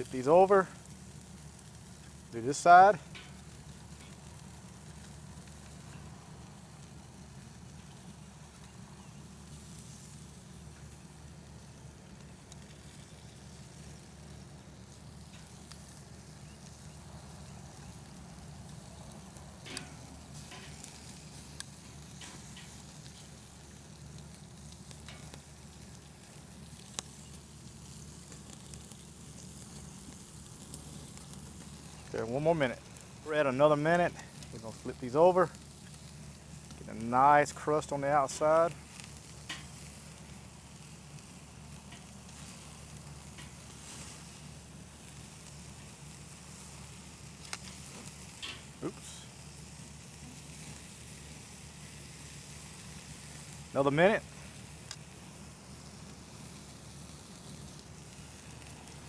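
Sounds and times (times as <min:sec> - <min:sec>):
steaks sizzling on a grill: 0:00.0 - 0:59.0.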